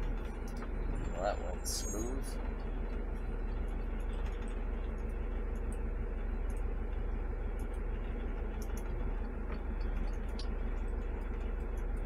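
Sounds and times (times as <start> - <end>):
garbage truck engine running: 0.0 - 12.0.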